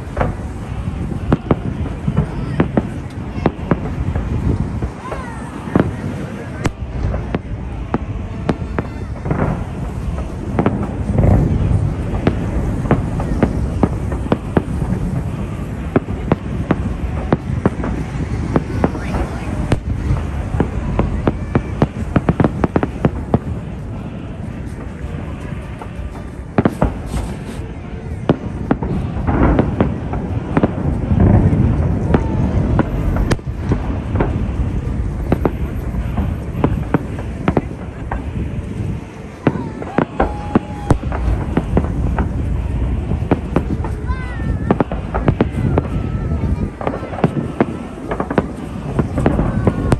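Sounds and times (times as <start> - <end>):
fireworks bangs: 0.0 - 49.9
heavy fireworks booms: 0.0 - 49.9
low rumble: 0.0 - 49.9.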